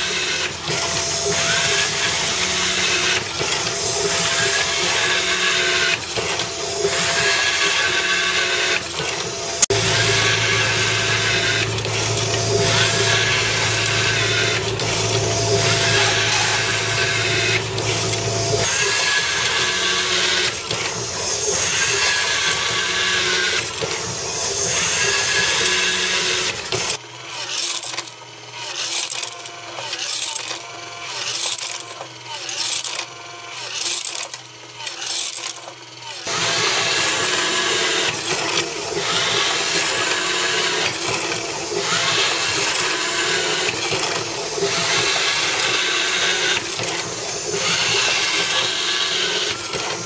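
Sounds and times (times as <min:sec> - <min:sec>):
steady machine hum: 0:00.0 - 0:27.0, 0:36.3 - 0:50.0
screwdriver motor whirring: 0:00.0 - 0:50.0.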